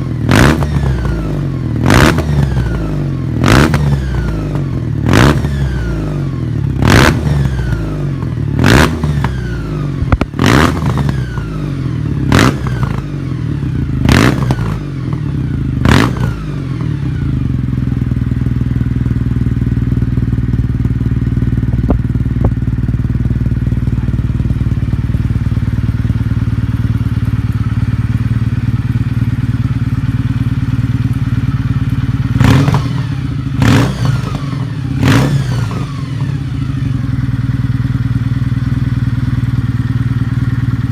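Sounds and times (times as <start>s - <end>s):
motorcycle engine idling: 0.0s - 40.9s
motorcycle engine throttle blips: 0.0s - 40.9s.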